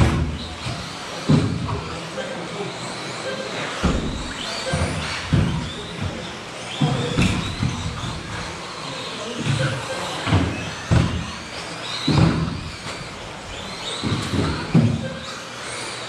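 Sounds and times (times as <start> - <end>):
cars thudding on track: 0.0 - 16.0
rc car motors whining: 0.0 - 16.0.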